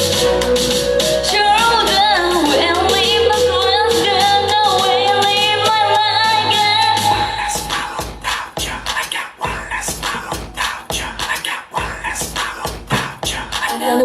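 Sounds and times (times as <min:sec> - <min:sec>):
pop music with beat and bass: 0:00.0 - 0:14.0
young women singing: 0:01.2 - 0:08.8, 0:09.4 - 0:14.0.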